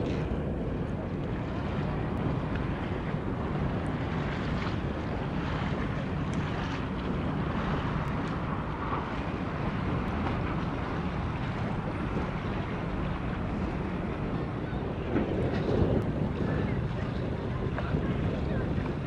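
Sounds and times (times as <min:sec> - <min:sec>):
harbour ambience: 0:00.0 - 0:19.0
wind buffeting microphone: 0:00.0 - 0:19.0.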